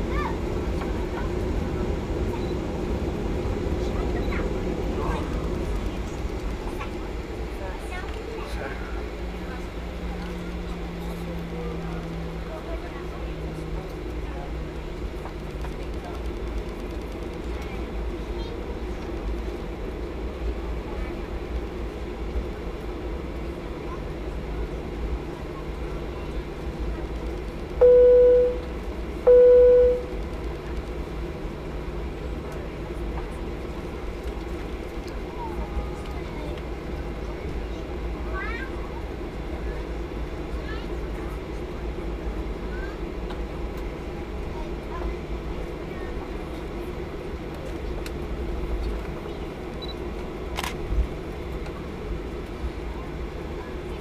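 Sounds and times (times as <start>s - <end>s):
aircraft engines idling: 0.0s - 54.0s.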